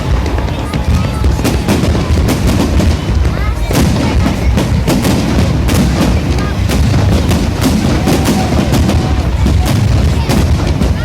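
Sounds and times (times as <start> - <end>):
continuous low rumble: 0.0 - 11.0
firework shells bursting: 0.0 - 11.0.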